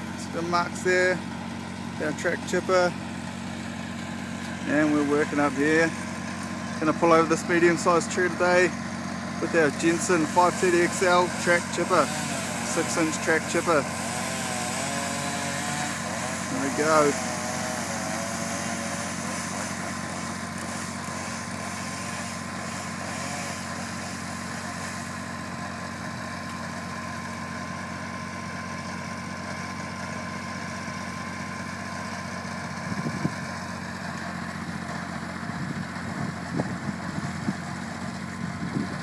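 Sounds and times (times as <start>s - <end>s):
wood chipper engine running: 0.0s - 39.0s.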